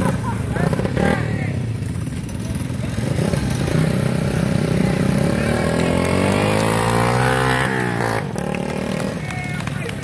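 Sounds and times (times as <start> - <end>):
minibike engines running: 0.0 - 10.0.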